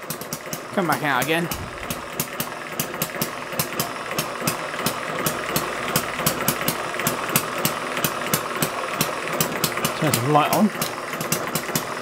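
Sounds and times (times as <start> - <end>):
dynamo whir: 0.0 - 12.0
small engine ticking: 0.0 - 12.0.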